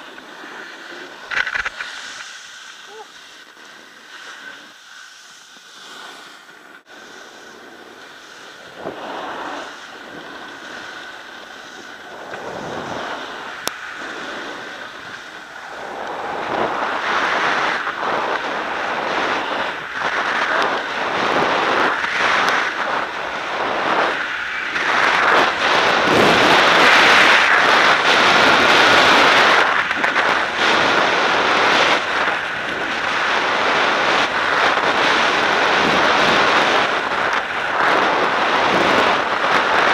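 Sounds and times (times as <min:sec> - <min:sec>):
wind rushing over microphone: 0:00.0 - 0:04.9, 0:05.6 - 0:39.9
skis hissing on packed snow: 0:00.0 - 0:39.9.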